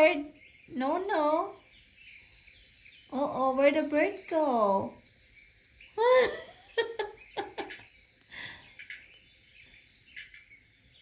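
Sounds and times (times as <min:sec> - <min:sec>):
small birds chirping on tv: 0:00.0 - 0:11.0.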